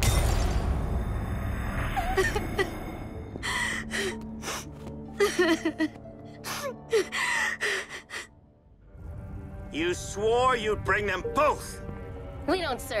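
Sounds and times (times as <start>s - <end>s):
dark held music score: 0.0s - 13.0s.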